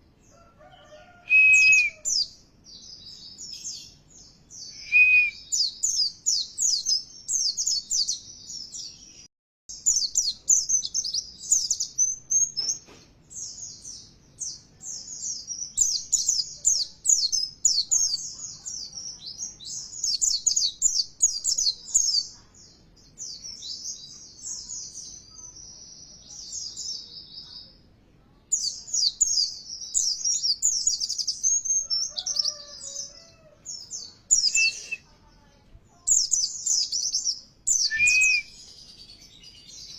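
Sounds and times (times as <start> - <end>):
bird high twittering song: 0.2 - 39.9.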